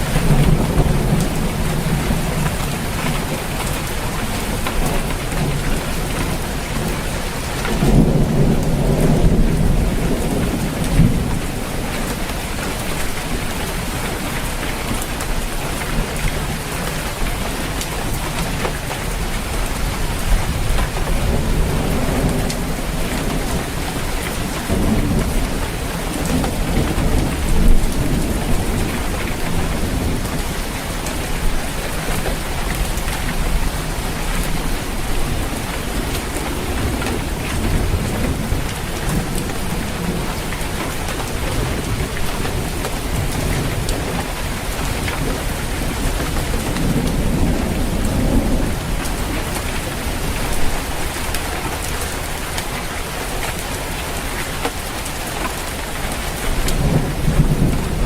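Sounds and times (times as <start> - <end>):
heavy rain on a roof: 0.0 - 58.0
low thunder rumbling: 0.0 - 58.0.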